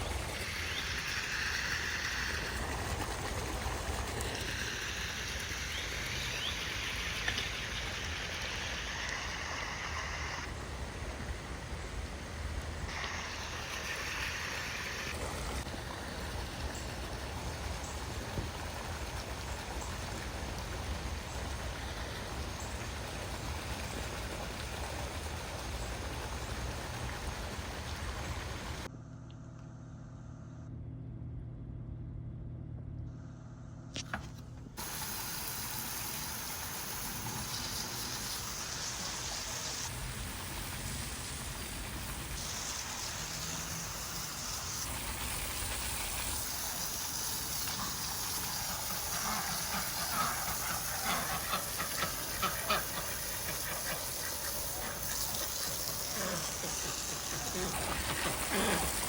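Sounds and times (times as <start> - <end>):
floodwater rushing: 0.0 - 28.9, 34.8 - 59.0.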